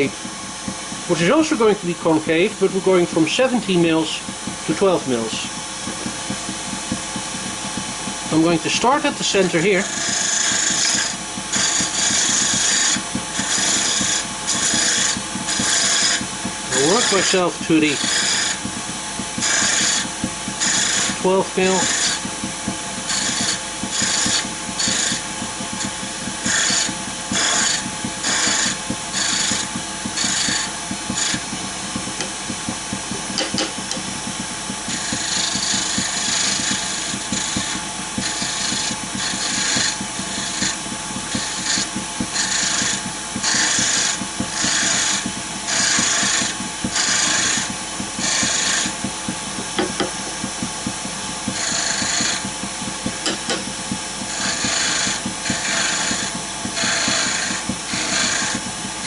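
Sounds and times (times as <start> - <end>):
lathe motor hum: 0.0 - 59.0
lathe tool hissing cuts: 0.0 - 59.0.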